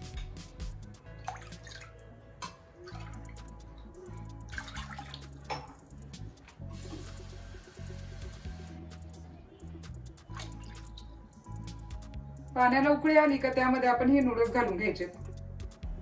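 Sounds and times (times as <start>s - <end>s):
background music with low beat: 0.0s - 16.0s.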